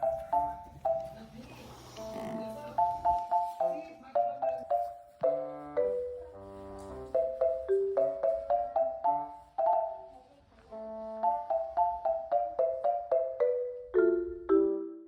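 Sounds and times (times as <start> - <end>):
mallet percussion melody: 0.0 - 1.4, 2.8 - 10.2, 11.2 - 15.0.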